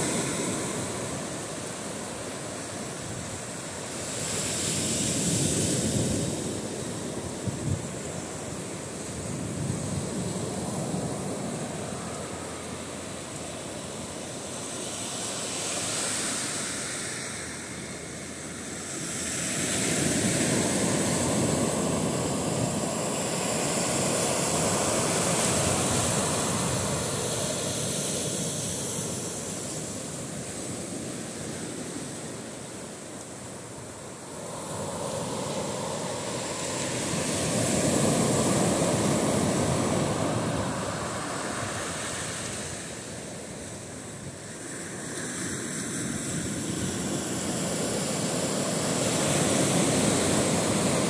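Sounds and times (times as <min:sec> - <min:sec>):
small waves breaking on beach: 0:00.0 - 0:51.0.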